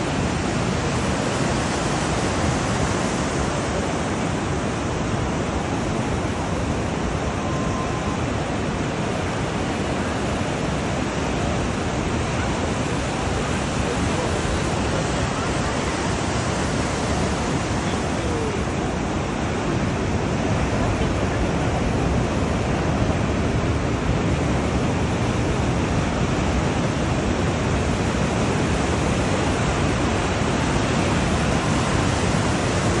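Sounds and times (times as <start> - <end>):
ocean surf breaking on shore: 0.0 - 33.0.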